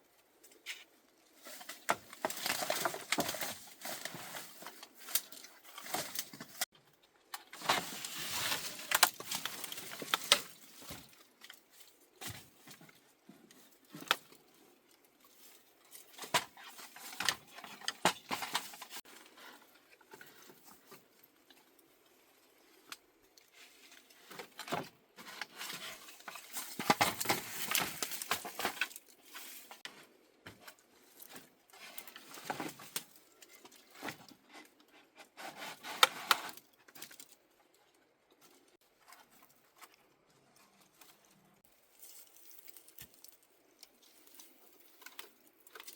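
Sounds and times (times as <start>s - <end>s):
bamboo and wood rustling and scraping: 0.0s - 45.9s.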